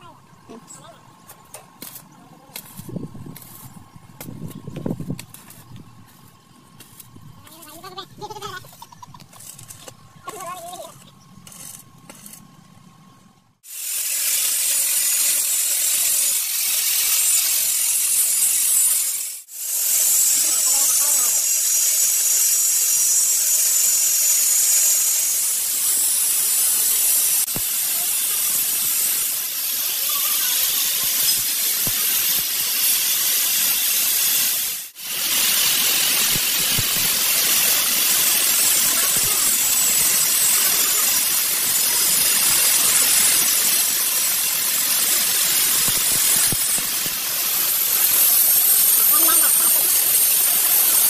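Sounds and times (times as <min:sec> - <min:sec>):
welding arc hissing and crackling: 0:01.4 - 0:12.4, 0:13.6 - 0:51.0.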